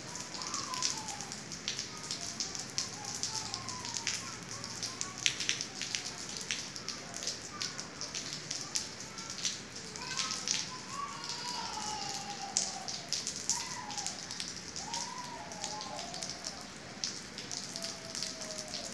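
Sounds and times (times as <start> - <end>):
faint wavering voice-like sounds: 0.0 - 18.9
rain on tiled yard and roof: 0.0 - 18.9
water drops dripping: 0.1 - 18.9.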